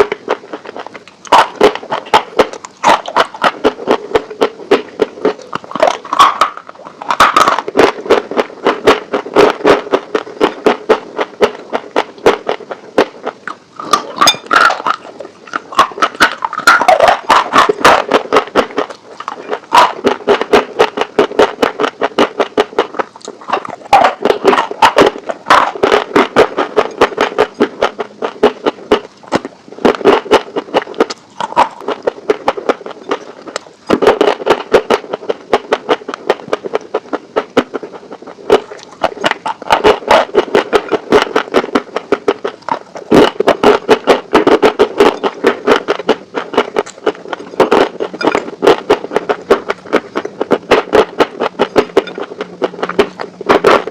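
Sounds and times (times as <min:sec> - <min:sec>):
crunching chicken wings: 0:00.0 - 0:53.9.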